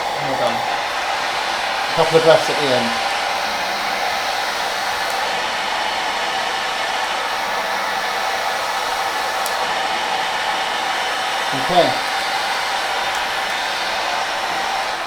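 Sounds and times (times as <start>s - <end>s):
machine airflow hiss: 0.0s - 15.0s.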